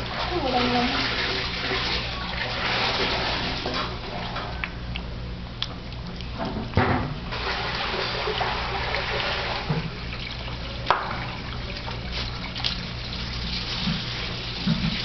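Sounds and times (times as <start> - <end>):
puppy chewing and lapping: 1.4 - 15.0.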